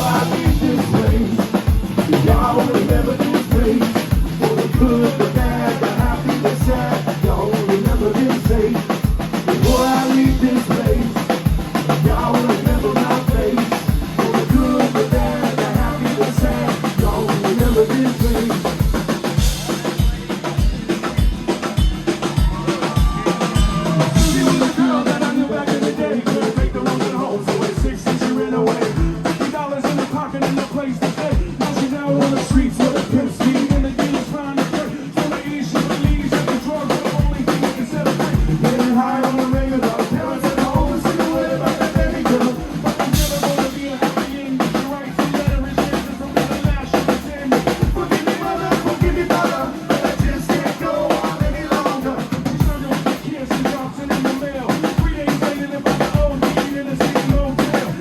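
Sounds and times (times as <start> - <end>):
drum kit beat: 0.0 - 58.0
rock band playing instrumental: 0.0 - 58.0.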